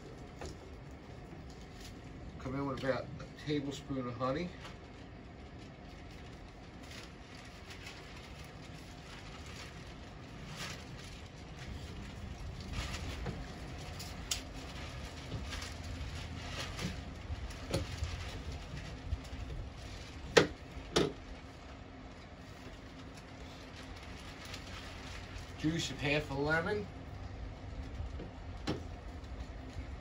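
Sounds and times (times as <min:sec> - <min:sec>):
outdoor background rumble: 0:00.0 - 0:30.0.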